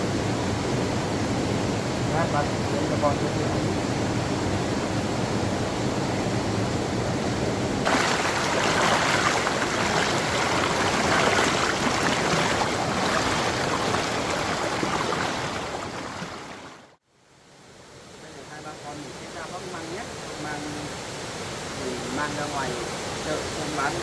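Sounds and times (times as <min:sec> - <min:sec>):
water rushing: 0:00.0 - 0:17.0, 0:17.9 - 0:24.0.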